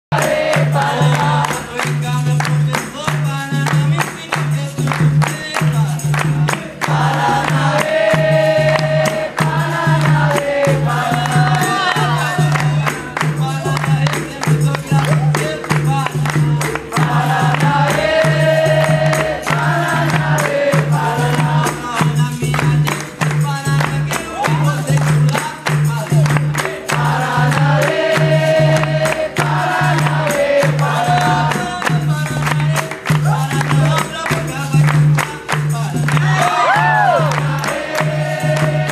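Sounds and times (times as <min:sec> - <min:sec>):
group singing: 0:00.1 - 0:02.8, 0:05.6 - 0:38.9
berimbaus and pandeiros rhythm: 0:00.1 - 0:38.9.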